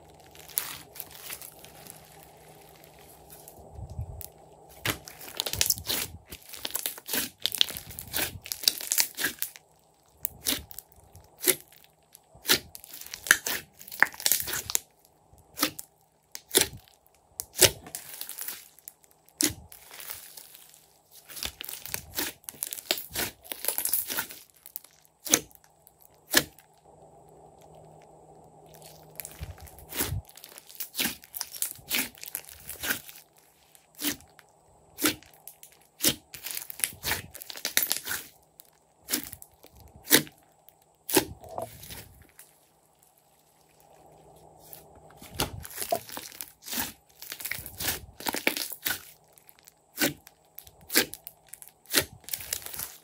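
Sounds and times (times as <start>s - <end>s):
slime squelching: 0.0s - 53.0s.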